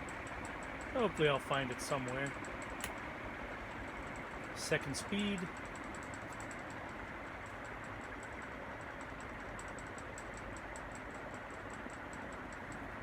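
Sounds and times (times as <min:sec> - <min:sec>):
ceiling fan air rush: 0:00.0 - 0:13.0
rapid ticking of fan: 0:00.0 - 0:13.0.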